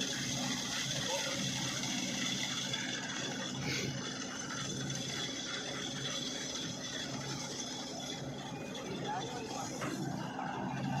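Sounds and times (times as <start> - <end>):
combine harvester running: 0.0 - 11.0
constant high whine: 0.0 - 11.0
fast rattle of working parts: 0.0 - 11.0.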